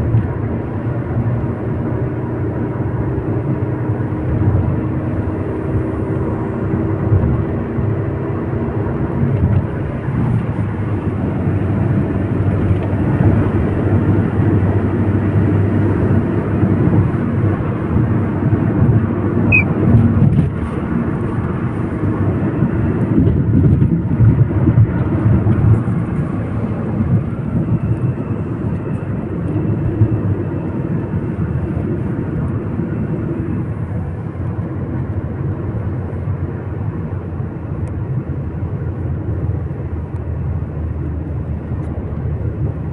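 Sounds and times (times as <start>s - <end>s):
vehicle tyres and engine rumble: 0.0s - 42.9s.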